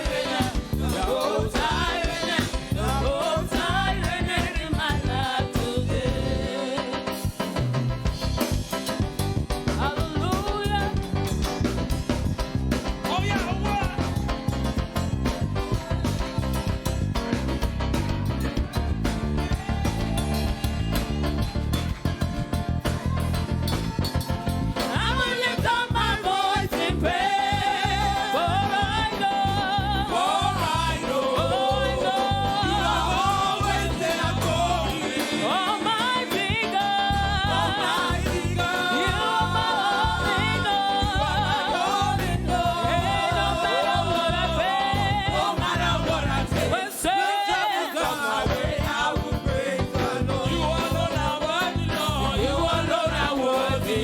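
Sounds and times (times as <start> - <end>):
band with pulsing bass beat: 0.0 - 6.5, 7.1 - 46.8, 48.5 - 54.0
voices singing gospel song: 0.0 - 7.7, 9.6 - 11.2, 18.6 - 54.0.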